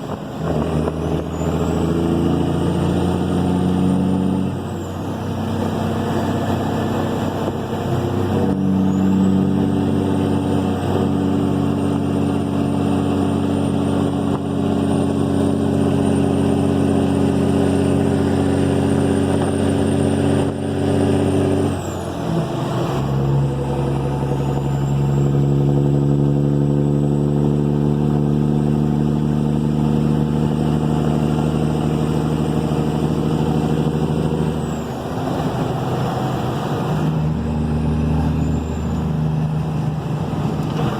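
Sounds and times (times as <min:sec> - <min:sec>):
diesel truck engine pulling under load: 0:00.0 - 0:40.9.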